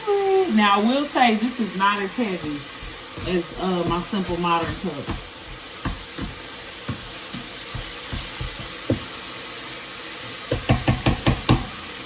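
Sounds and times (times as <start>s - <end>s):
food hissing on stove: 0.0s - 12.0s.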